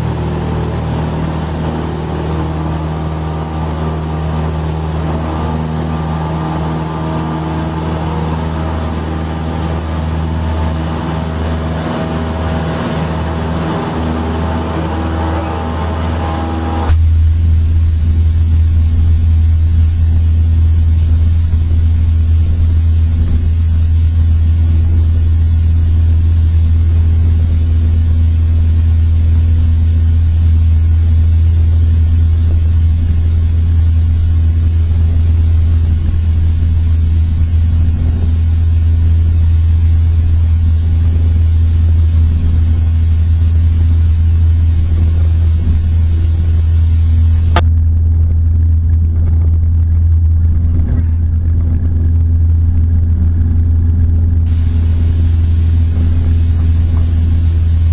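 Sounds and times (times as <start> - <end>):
propeller plane engine drone: 0.0 - 57.9.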